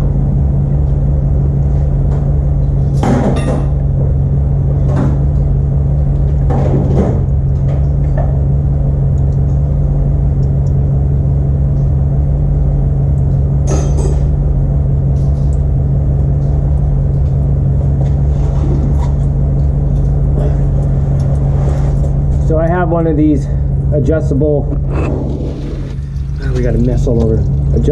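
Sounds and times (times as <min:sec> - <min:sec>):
steady low drone: 0:00.0 - 0:27.9.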